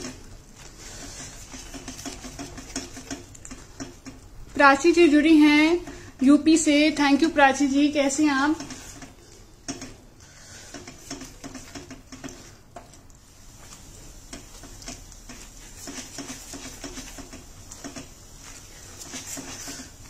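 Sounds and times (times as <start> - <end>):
spatula scraping a wok: 0.0 - 4.3, 8.0 - 20.0.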